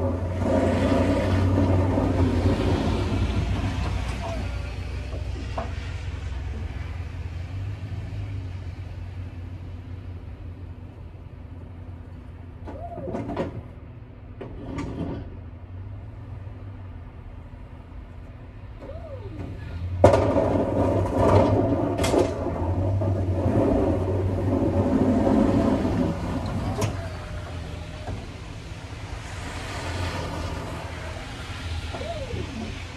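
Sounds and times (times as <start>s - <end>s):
plow blade scraping pavement: 0.0s - 32.9s.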